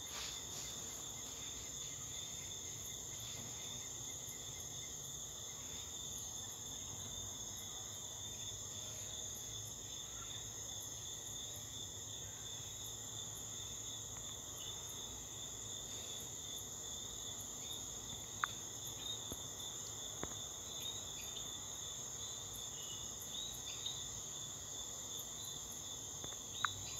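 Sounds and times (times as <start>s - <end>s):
high-pitched insect chorus: 0.0s - 26.9s.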